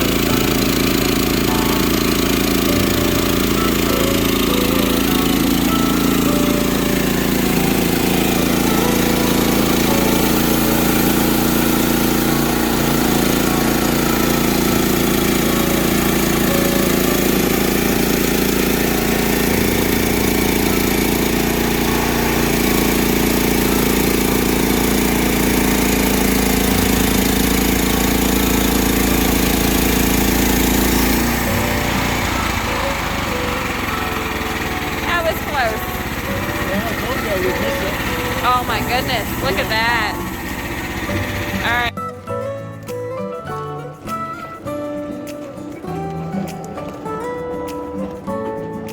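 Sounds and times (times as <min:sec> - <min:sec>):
sawmill engine under load: 0:00.0 - 0:41.9.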